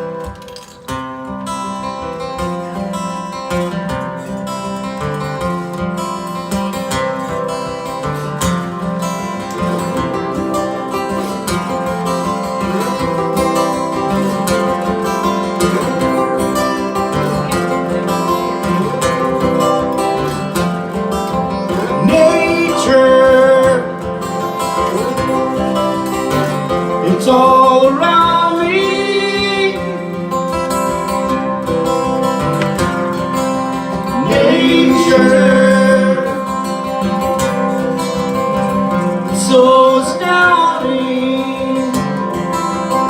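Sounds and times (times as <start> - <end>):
strummed acoustic guitar: 0.0 - 43.0.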